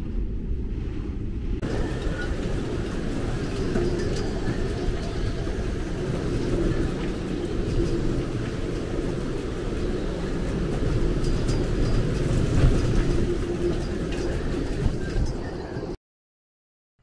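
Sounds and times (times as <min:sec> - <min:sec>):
wind buffeting microphone: 0:00.0 - 0:16.0
rain: 0:01.6 - 0:15.6.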